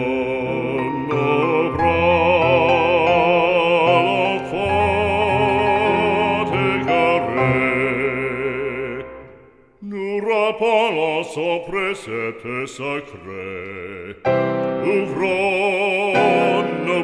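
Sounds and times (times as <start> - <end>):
slow sung piece with vibrato: 0.0 - 17.0.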